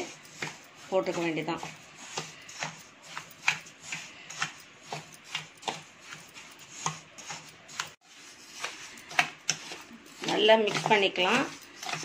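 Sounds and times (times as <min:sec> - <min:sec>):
spatula scraping sugar on steel plate: 0:00.0 - 0:12.0.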